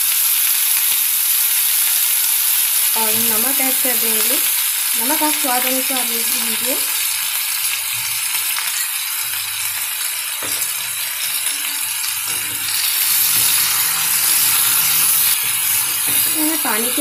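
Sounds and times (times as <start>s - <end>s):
pumpkin sizzling in hot oil: 0.0s - 17.0s.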